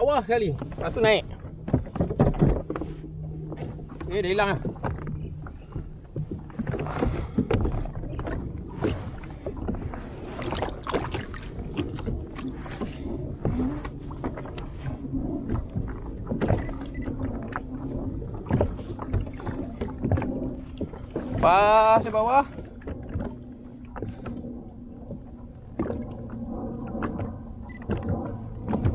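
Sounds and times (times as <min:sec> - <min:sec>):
water slapping against kayak hull: 0:00.0 - 0:28.9
wind rumble on microphone: 0:00.0 - 0:28.9.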